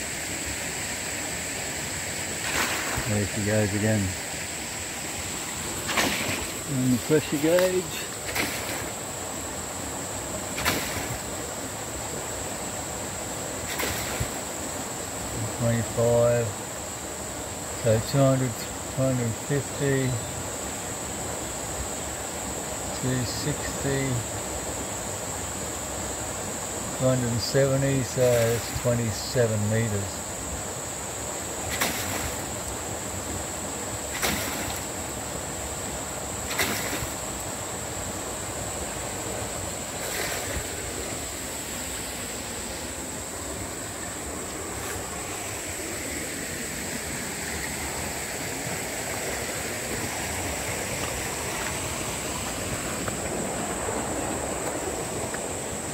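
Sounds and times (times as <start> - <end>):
insects droning: 0.0 - 55.9
rushing creek water: 0.0 - 55.9.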